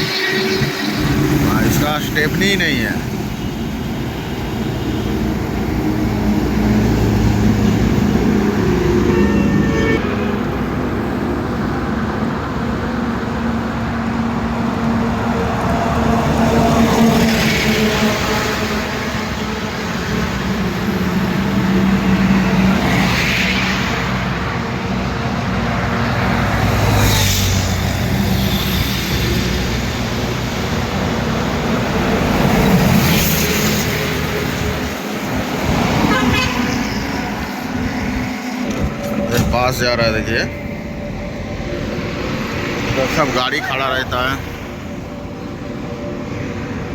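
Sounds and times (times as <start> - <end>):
vehicles rushing past: 0.0 - 46.9.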